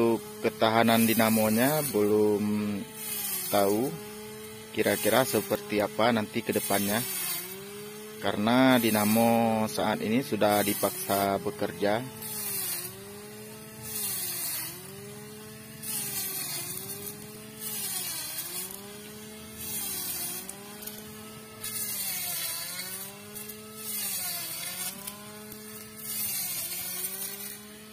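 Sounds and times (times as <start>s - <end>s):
cut grass rushing: 0.0s - 27.9s
string trimmer whining: 0.0s - 27.9s.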